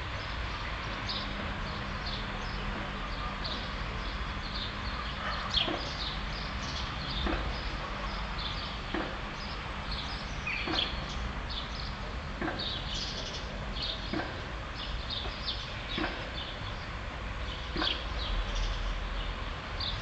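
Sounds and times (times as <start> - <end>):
small birds chirping: 0.1 - 20.0.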